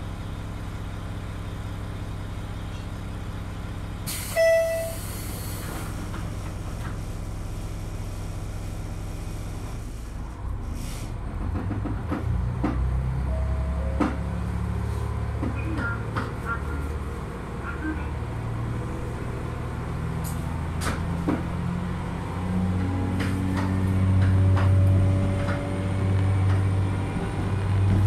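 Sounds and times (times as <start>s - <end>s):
diesel railcar engine: 0.0s - 28.0s.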